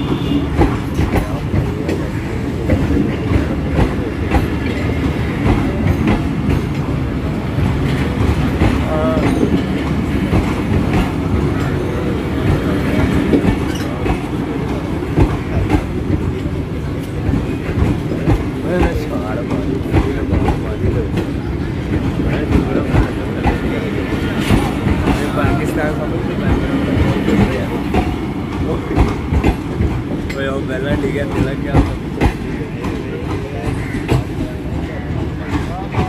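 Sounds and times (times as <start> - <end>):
heavy train rumble: 0.0 - 36.0
train wheels clicking on rail joints: 0.0 - 36.0.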